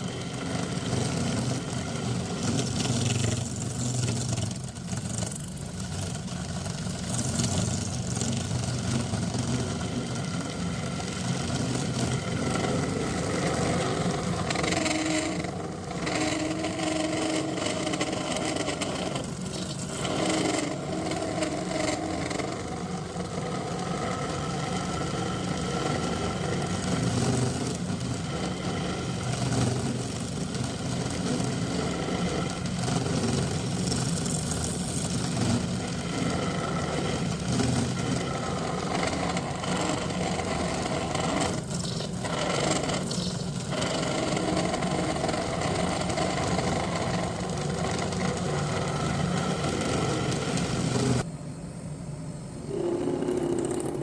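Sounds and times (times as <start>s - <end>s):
wood lathe humming: 8.1s - 51.3s, 52.7s - 54.0s.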